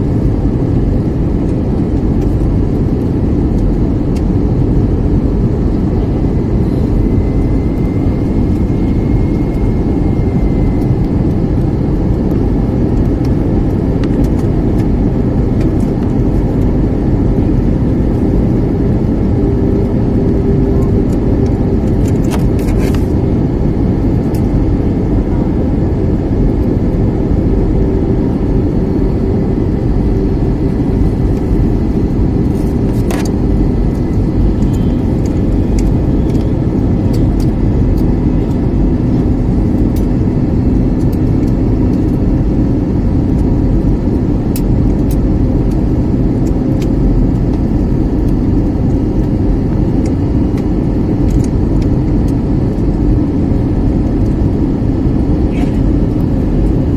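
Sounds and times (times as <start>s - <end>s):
jet airliner cabin drone: 0.0s - 56.9s.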